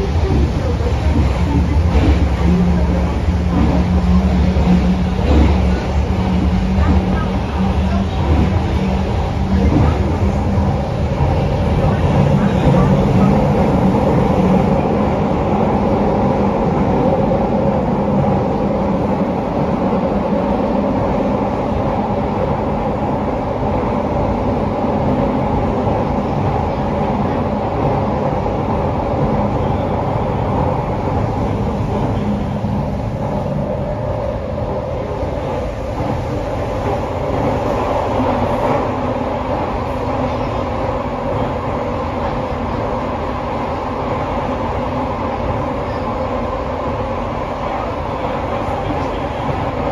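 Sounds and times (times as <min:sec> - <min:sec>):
subway train running in tunnel: 0:00.0 - 0:49.9.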